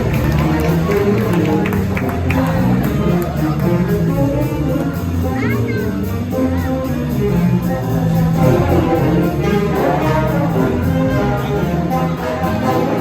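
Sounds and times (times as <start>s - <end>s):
brass sustained chords: 0.0s - 13.0s
jazz big band playing: 0.0s - 13.0s
low bass line: 0.0s - 13.0s.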